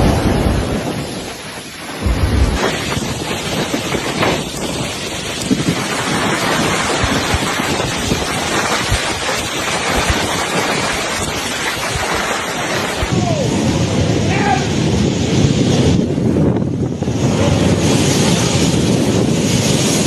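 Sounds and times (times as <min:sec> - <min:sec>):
heavy rain pouring: 0:00.0 - 0:20.0
wind gusting against microphone: 0:00.0 - 0:20.0.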